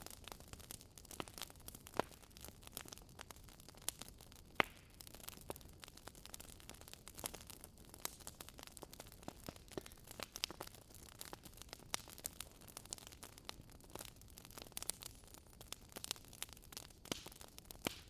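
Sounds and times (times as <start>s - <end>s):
wood fire popping and snapping: 0.0s - 18.0s.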